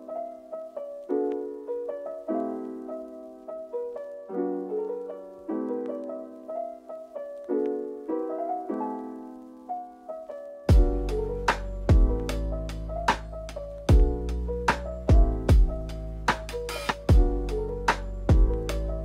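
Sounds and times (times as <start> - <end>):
solo piano melody: 0.0 - 19.0.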